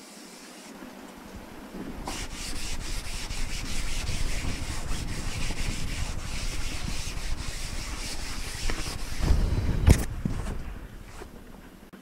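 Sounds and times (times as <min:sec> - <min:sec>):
hands scraping over fabric: 0:01.9 - 0:11.8.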